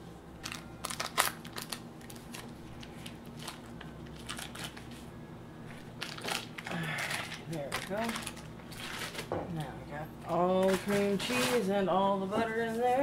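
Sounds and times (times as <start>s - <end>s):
low steady hum: 0.0s - 13.0s
foil wrappers crinkling: 0.4s - 9.4s, 10.3s - 13.0s.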